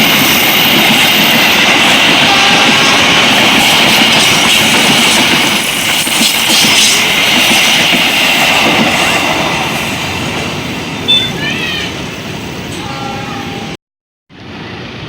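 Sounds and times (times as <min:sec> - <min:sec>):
hissing rail ring: 0:00.0 - 0:13.7
train wheels rolling on rails: 0:00.0 - 0:13.8.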